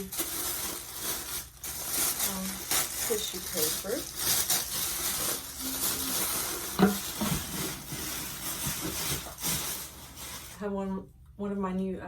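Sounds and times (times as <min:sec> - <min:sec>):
tissue paper rustling: 0:00.0 - 0:10.6.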